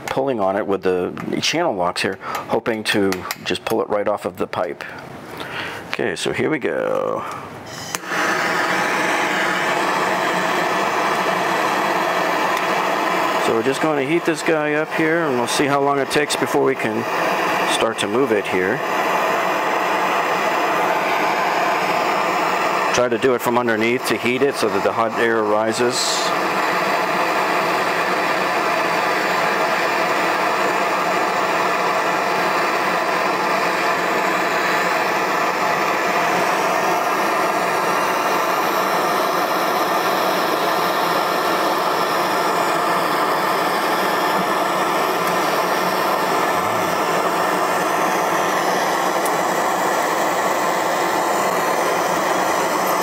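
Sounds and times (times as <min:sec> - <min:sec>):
gas torch hissing: 0:06.6 - 0:53.0.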